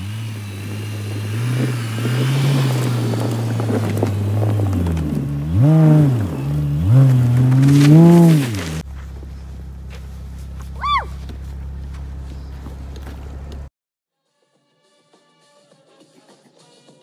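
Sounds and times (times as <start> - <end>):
car engine revving: 0.0 - 13.7
tyres crunching in snow: 0.0 - 13.7.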